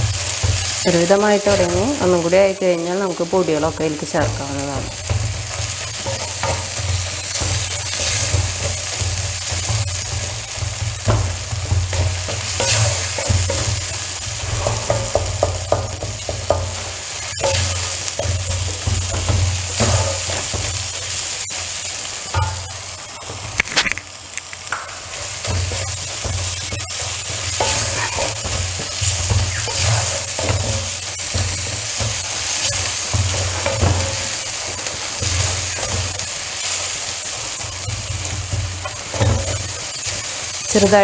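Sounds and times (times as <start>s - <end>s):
food sizzling in oil: 0.0s - 41.0s
spatula scraping pan: 0.0s - 41.0s.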